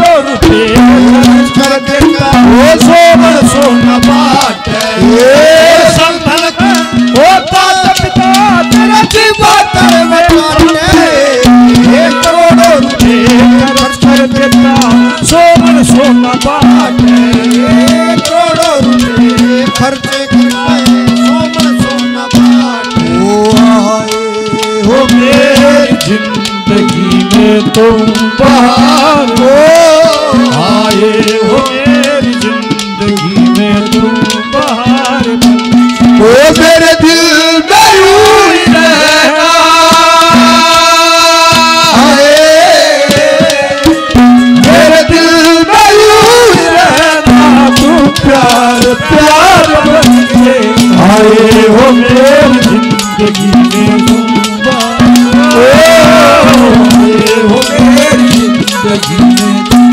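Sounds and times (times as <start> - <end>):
fast hand-drum rhythm: 0.0 - 59.9
harmonium melody over drone: 0.0 - 59.9.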